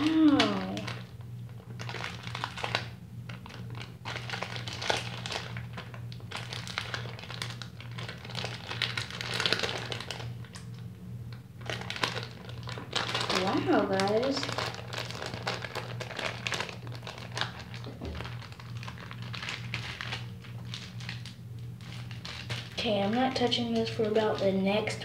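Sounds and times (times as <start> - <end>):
low steady hum: 0.0 - 25.0
plastic bag crinkling: 0.0 - 25.0.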